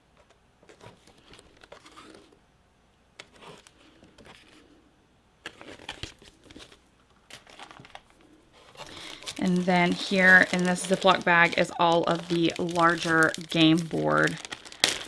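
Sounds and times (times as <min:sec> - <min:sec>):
book pages turning: 0:00.1 - 0:02.4, 0:03.2 - 0:04.7, 0:05.4 - 0:15.0.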